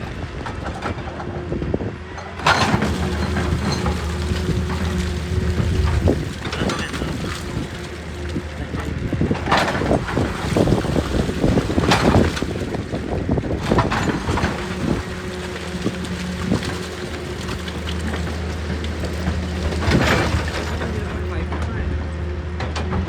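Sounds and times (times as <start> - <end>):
excavator diesel engine drone: 0.0 - 23.0
sharp knocks and scrapes: 2.3 - 21.7.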